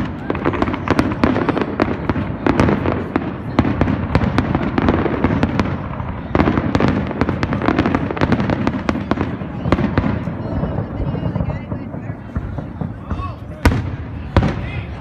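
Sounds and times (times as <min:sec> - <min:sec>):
continuous fireworks rumble: 0:00.0 - 0:15.0
fireworks bangs and crackles: 0:00.0 - 0:15.0.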